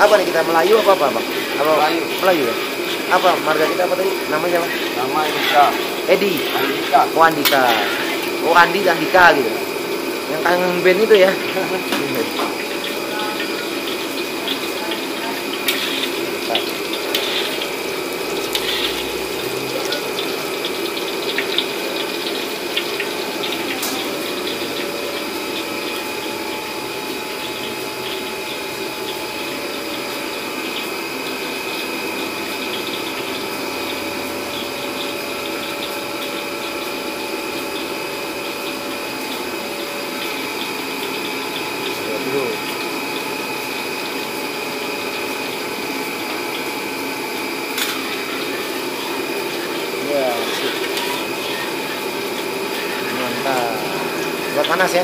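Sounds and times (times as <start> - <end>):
oil sizzling in a wok: 0.0 - 55.0.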